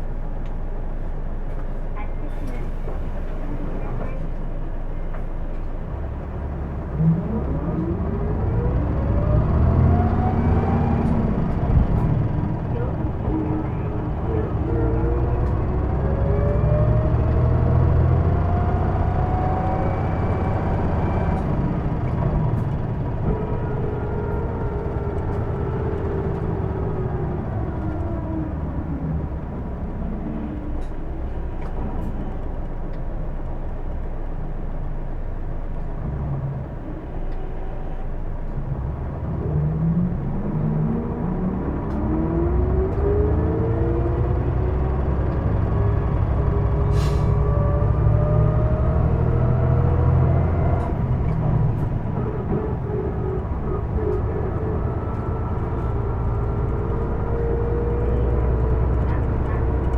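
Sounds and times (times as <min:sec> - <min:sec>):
bus diesel engine rumble: 0:00.0 - 0:59.9
drivetrain whine: 0:02.5 - 0:59.9.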